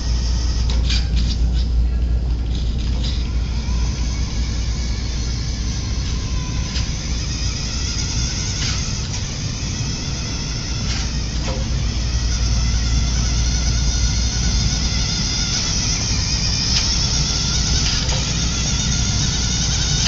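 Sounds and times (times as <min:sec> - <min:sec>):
toy car motor rumbling: 0:00.0 - 0:20.0.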